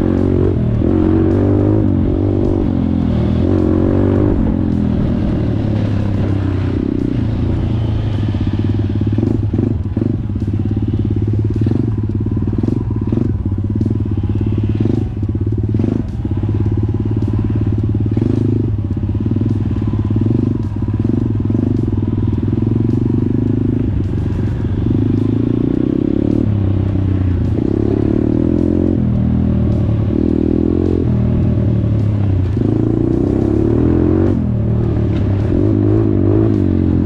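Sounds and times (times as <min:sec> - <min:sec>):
off-road motorcycle engine: 0:00.0 - 0:37.0.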